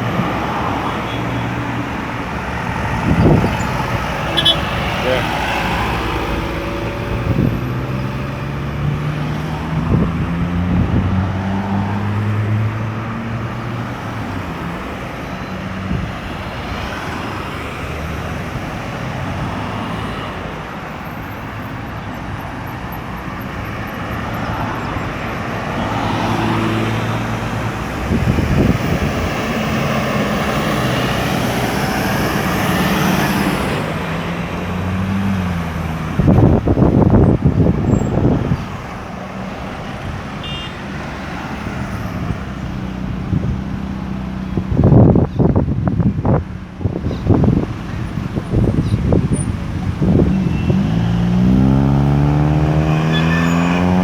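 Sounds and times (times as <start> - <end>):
cars and trucks passing: 0.0 - 54.0.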